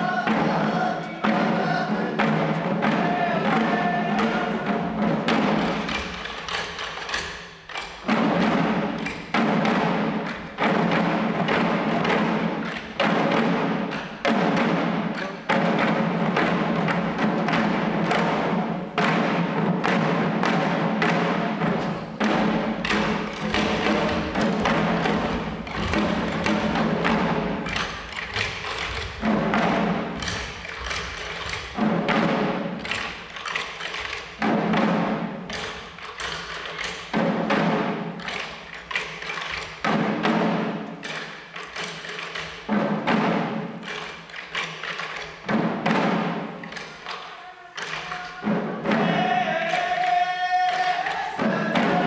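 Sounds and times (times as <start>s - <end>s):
small drums beating in unison: 0.0s - 52.0s.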